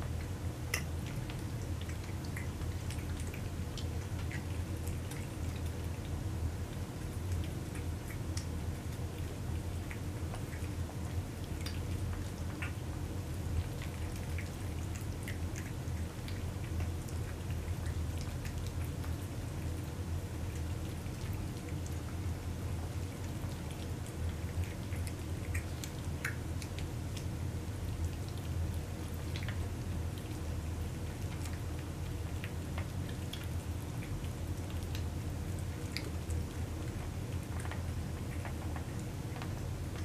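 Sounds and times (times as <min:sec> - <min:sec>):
cats chewing and licking food: 0:00.0 - 0:40.0
steady low hum: 0:00.0 - 0:40.0.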